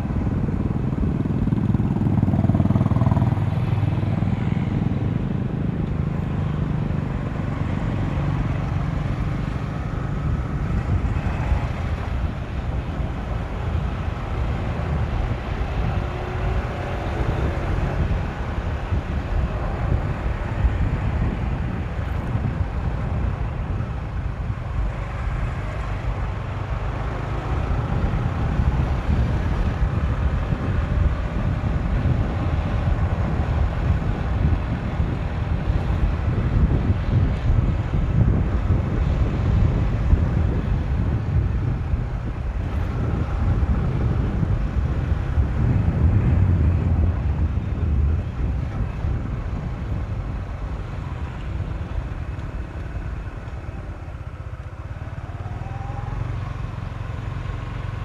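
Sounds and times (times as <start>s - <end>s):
faint motorcycle engine: 0.0s - 58.0s
wind rumble on microphone: 0.0s - 58.0s.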